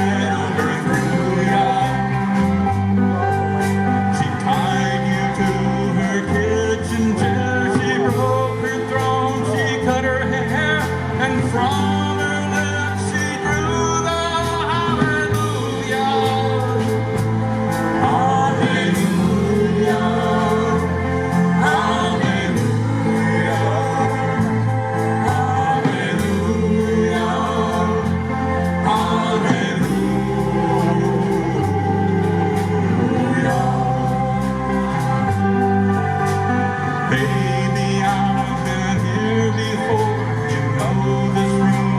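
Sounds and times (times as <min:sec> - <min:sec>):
steady drumbeat: 0:00.0 - 0:40.2
bass: 0:00.0 - 0:41.9
person singing: 0:00.0 - 0:41.9.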